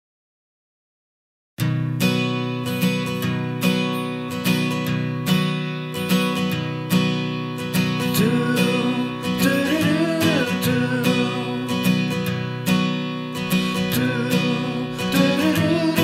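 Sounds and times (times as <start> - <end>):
strummed acoustic guitar: 1.6 - 16.0.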